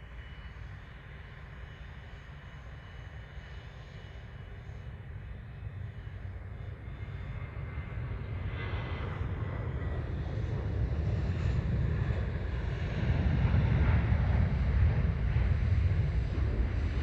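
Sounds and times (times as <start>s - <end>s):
faint engine whine: 0.0s - 17.0s
jet engines low rumble: 0.0s - 17.0s.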